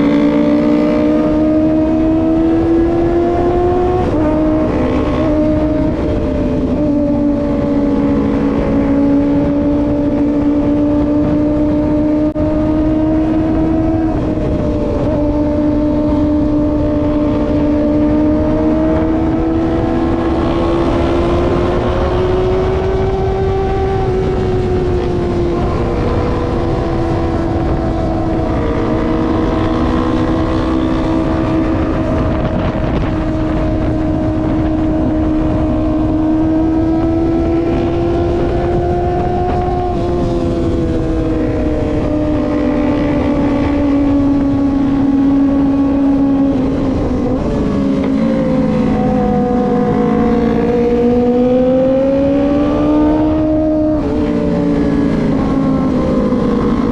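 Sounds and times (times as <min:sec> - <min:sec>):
motorcycle engine cruising: 0:00.0 - 0:56.9
wind rumble: 0:00.0 - 0:56.9.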